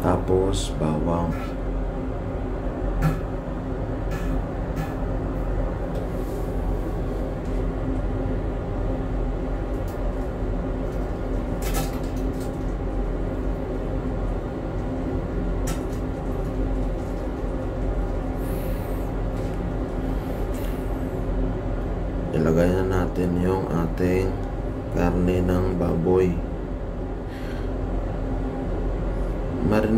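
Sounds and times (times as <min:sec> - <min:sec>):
low mechanical rumble: 0:00.0 - 0:29.9.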